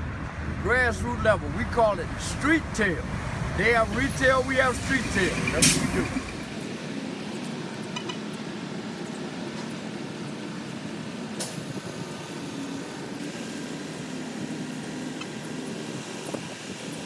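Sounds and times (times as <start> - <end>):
city street traffic hum: 0.0 - 17.0.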